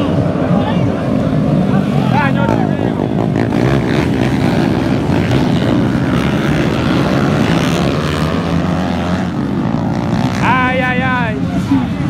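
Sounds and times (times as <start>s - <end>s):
dirt bikes revving past: 0.0s - 12.0s.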